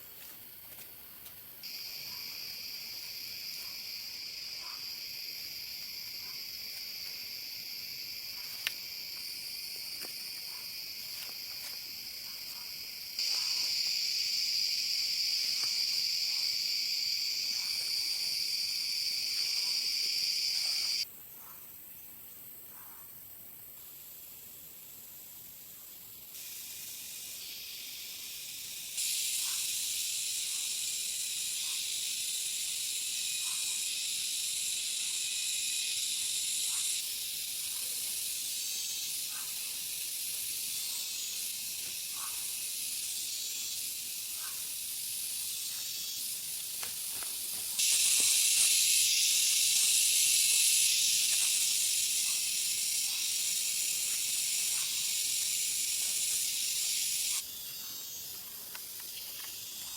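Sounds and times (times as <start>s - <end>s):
high-pitched hiss: 0.0s - 22.6s, 23.2s - 59.9s.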